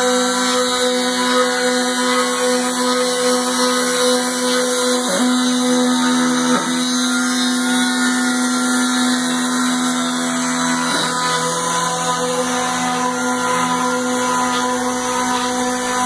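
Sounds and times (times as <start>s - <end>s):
milling machine motor whine: 0.0s - 16.0s.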